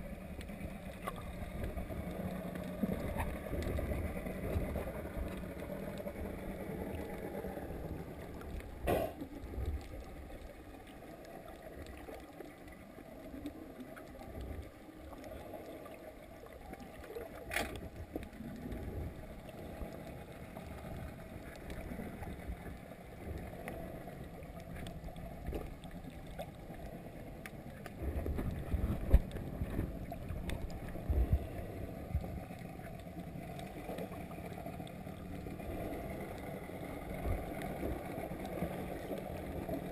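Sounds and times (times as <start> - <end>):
underwater sloshing rumble: 0.0 - 39.9.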